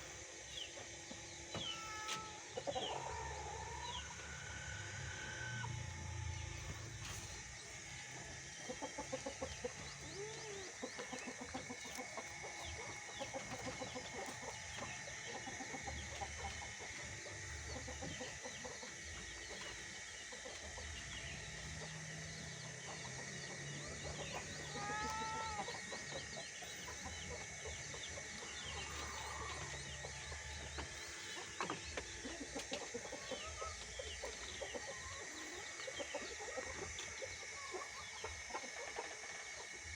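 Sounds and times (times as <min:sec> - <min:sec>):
chickens clucking: 0:02.5 - 0:39.9.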